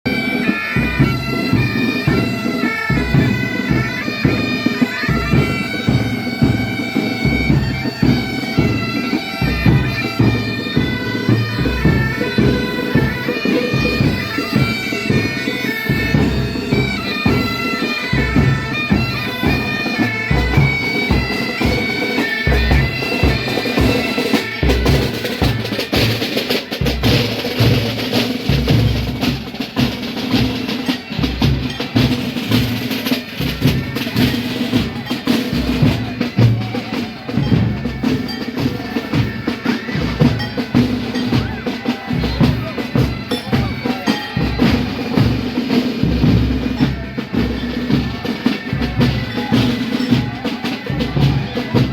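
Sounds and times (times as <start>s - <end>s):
bagpipes playing: 0.1s - 51.9s
snare drum playing: 0.2s - 51.9s.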